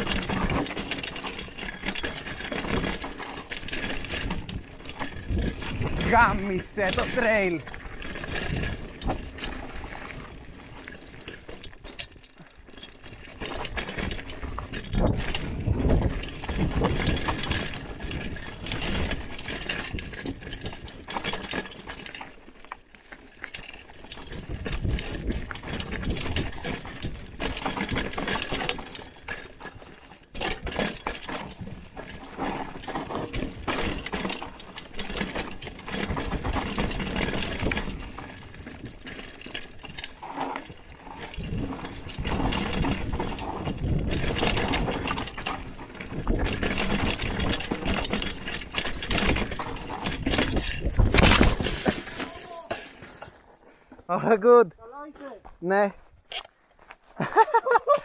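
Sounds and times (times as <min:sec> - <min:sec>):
mountain bike rattling on rocky trail: 0:00.0 - 0:58.0.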